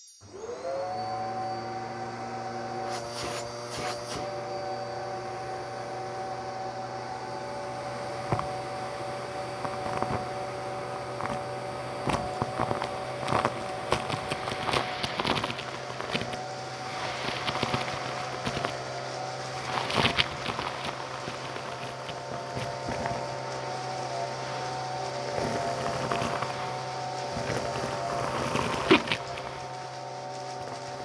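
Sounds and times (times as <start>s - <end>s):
vacuum cleaner running: 0.2s - 31.0s
debris rattling up vacuum nozzle: 1.6s - 31.0s.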